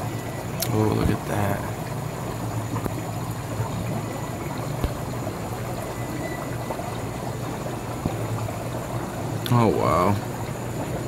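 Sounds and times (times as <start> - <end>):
aquarium water bubbling: 0.0 - 11.0
low steady hum: 0.0 - 11.0.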